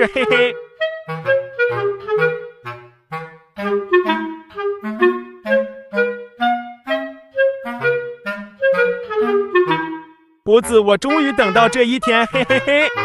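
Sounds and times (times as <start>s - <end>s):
woodwind melody: 0.0s - 13.0s.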